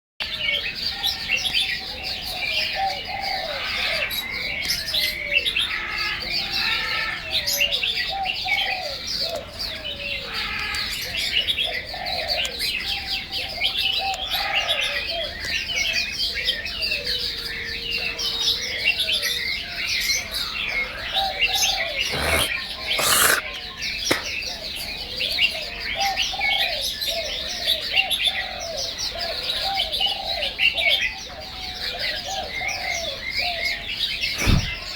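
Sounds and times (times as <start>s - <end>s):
birds singing: 0.2s - 34.9s.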